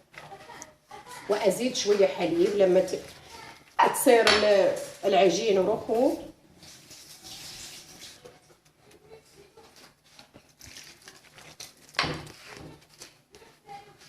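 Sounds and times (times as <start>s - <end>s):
hands kneading dough: 0.0s - 14.0s.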